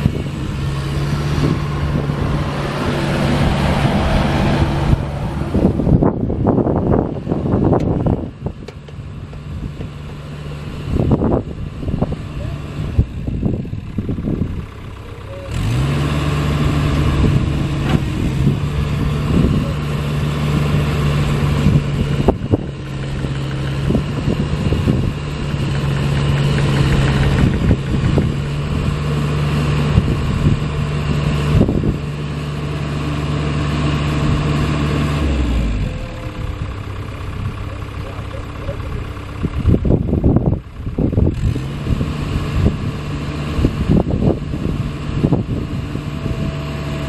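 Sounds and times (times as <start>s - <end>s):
excavator diesel engine running: 0.0s - 47.0s
engine knocks: 1.3s - 30.8s, 35.2s - 47.0s.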